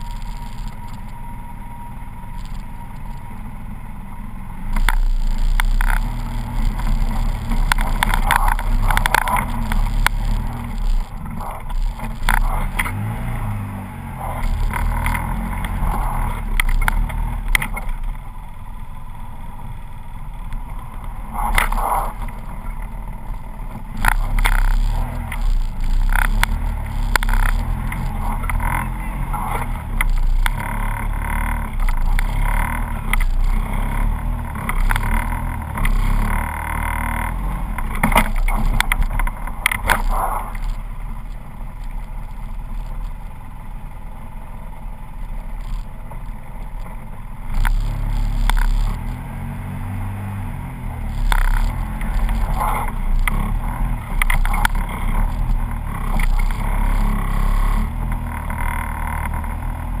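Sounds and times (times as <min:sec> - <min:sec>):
off-road vehicle engine running: 0:00.0 - 1:00.0.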